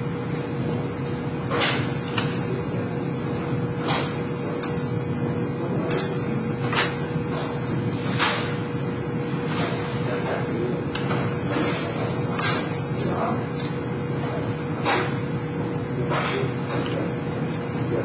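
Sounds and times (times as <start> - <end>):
steady shop hum: 0.0 - 18.0.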